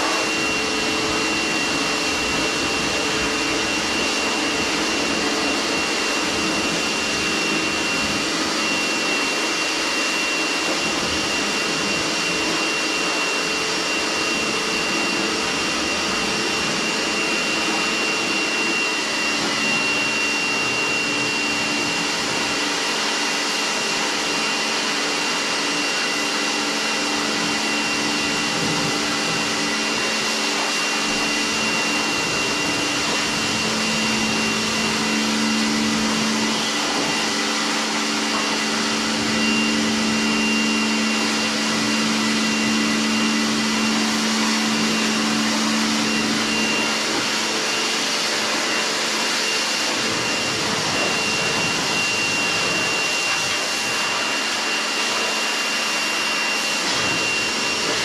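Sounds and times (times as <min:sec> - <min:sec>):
water jet spraying: 0:00.0 - 0:22.6, 0:27.3 - 0:54.4
pressure washer running: 0:00.0 - 0:58.0.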